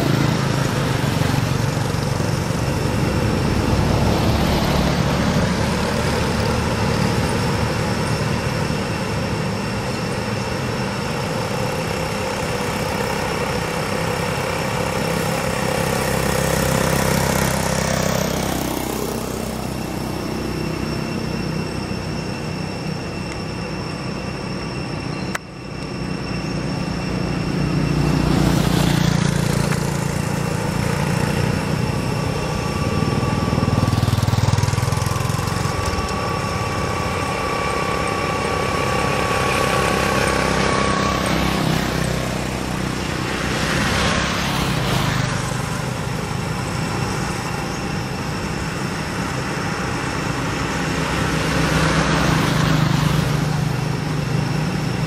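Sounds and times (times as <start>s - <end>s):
engine rumble of passing vehicles: 0.0s - 55.0s
steady high-pitched tones: 0.0s - 55.0s.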